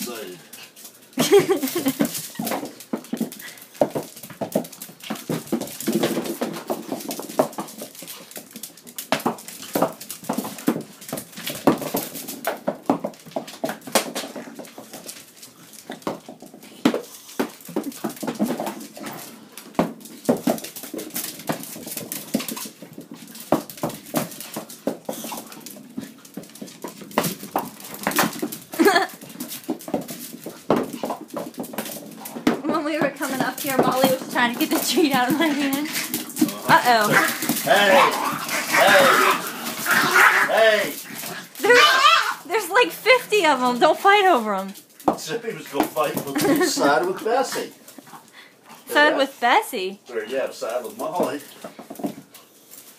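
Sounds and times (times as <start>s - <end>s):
dog claws clicking on floor: 0.0s - 49.2s, 50.1s - 52.9s
small objects bouncing on floor: 0.0s - 52.9s.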